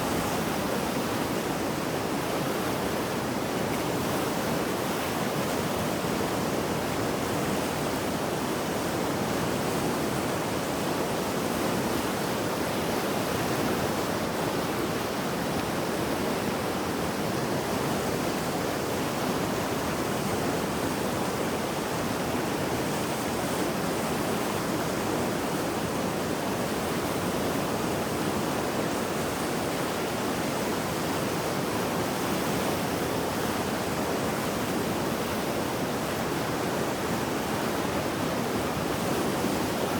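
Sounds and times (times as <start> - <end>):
river rushing roar: 0.0 - 39.9.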